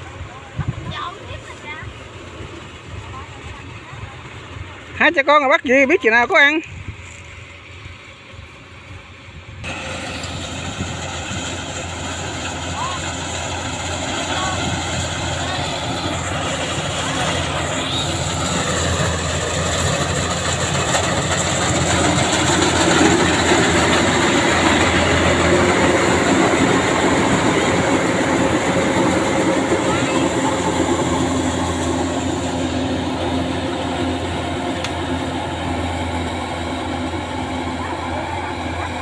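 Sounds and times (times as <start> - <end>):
combine harvester machinery drone: 0.0 - 39.0.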